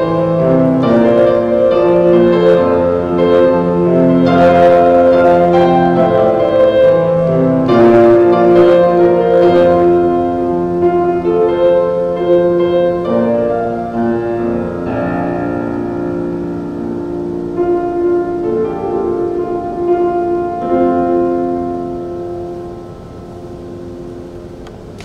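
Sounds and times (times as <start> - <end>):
grand piano playing chords: 0.0 - 25.0.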